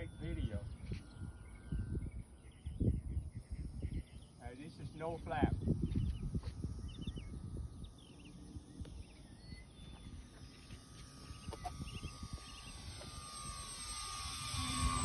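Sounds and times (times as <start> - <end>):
model plane motor whining: 0.0 - 15.0
small birds chirping: 0.0 - 15.0.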